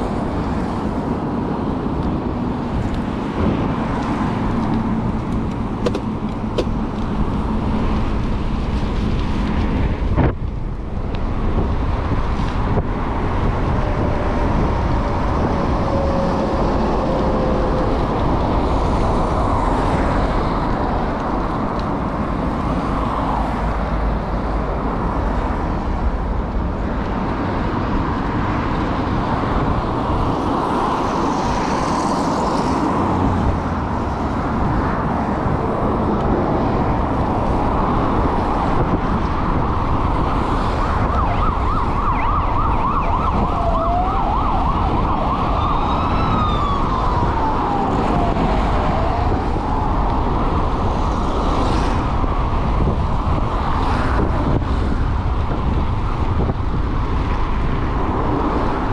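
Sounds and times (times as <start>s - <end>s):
wind rushing on microphone: 0.0s - 58.9s.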